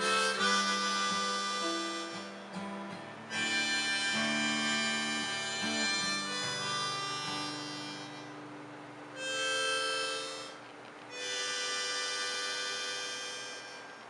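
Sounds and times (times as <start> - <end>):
acoustic guitar: 0.0 - 14.0
harmonica chords: 0.0 - 14.0.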